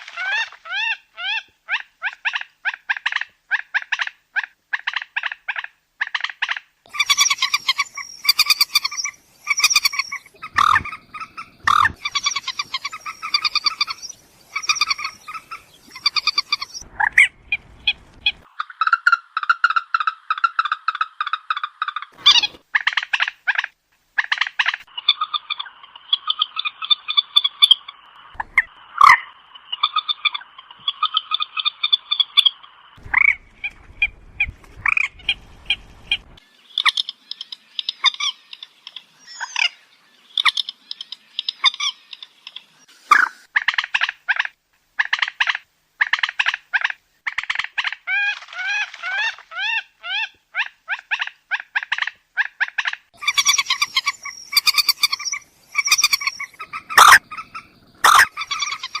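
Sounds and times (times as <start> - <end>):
moorhen clucking calls: 0.1 - 59.0.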